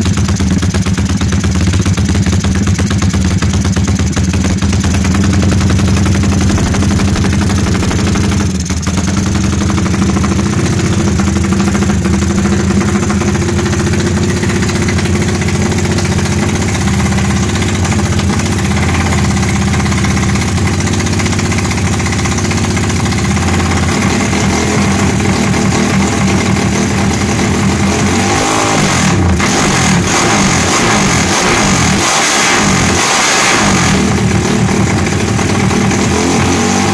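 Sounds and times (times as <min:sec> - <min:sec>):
motorcycle engine idling loudly: 0:00.0 - 0:36.9.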